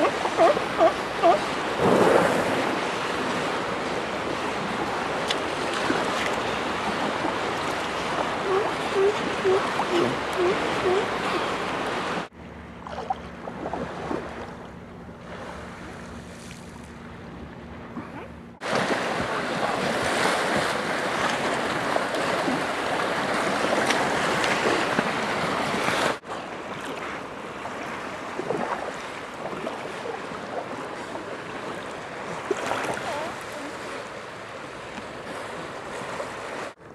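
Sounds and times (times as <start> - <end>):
water lapping and splashing: 0.0 - 36.9.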